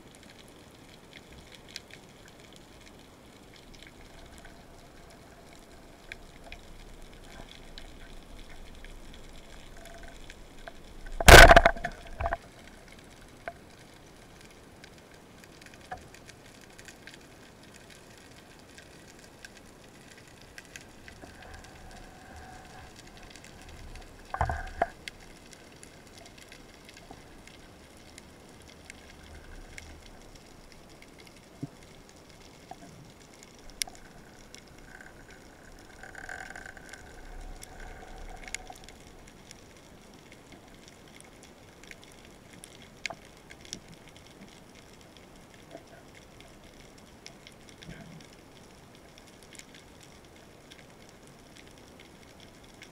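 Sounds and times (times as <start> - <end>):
faint steady tones: 0.0 - 52.9
faint underwater clicks: 0.0 - 52.9.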